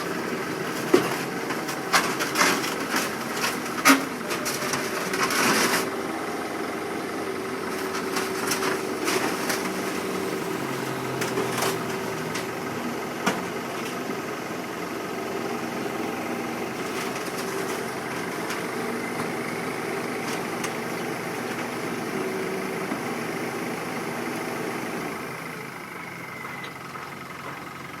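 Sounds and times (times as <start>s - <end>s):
excavator diesel engine idling: 0.0s - 28.0s.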